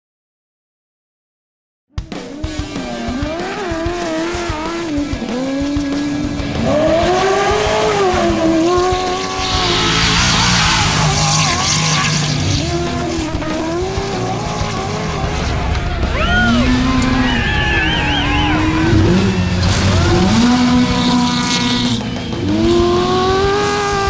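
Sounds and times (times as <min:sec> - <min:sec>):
truck engine revving: 0:02.0 - 0:24.0
tires sliding and dirt spraying: 0:02.2 - 0:24.0.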